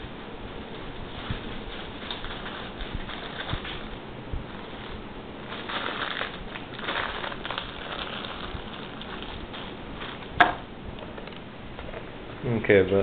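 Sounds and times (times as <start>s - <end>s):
rustling crinkling handling noise: 0.4s - 12.1s.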